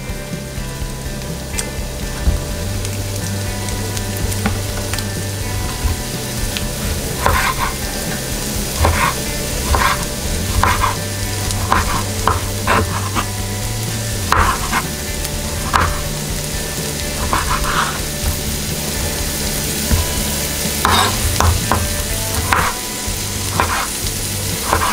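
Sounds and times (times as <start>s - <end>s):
pan sizzling: 0.0s - 24.9s.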